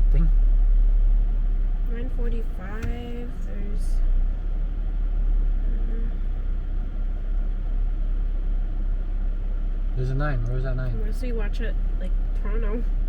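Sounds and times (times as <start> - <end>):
car interior engine and road noise: 0.0 - 13.0.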